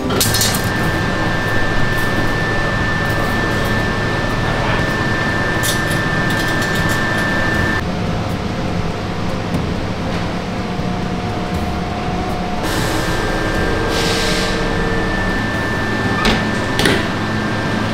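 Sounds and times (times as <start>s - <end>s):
factory machinery and ventilation: 0.0s - 17.9s
thin high whine: 0.0s - 17.9s.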